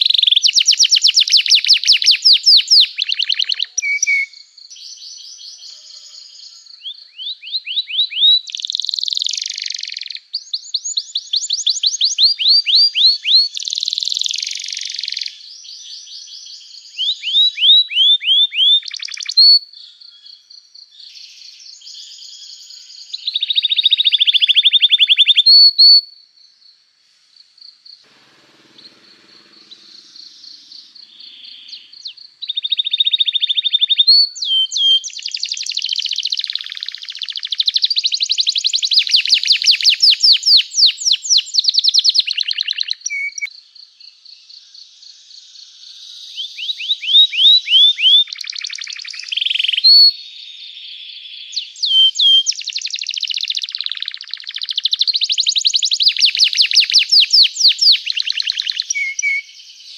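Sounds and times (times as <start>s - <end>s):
canary singing in trills: 0.0s - 20.4s, 28.1s - 43.5s, 45.5s - 59.9s.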